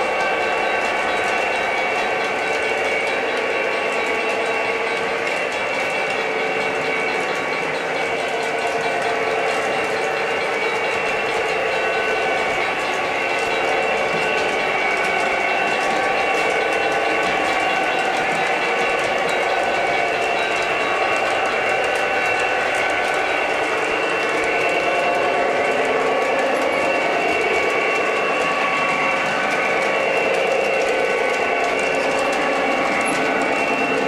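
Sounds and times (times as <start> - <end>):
clatter of wheels on rail: 0.0 - 34.0
whir of model train motors: 0.0 - 34.0.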